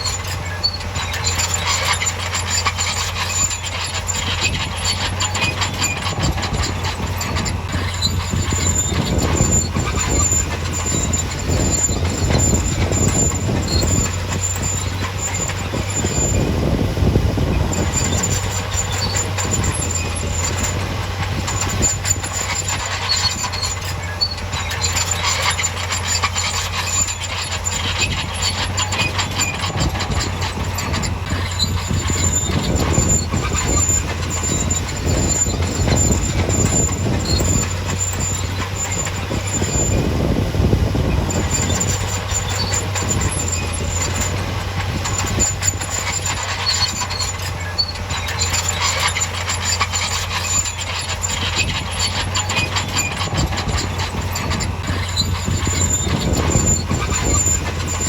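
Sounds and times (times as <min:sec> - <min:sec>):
diesel engine drone: 0:00.0 - 0:58.0
metallic track clatter and squeal: 0:00.0 - 0:58.0.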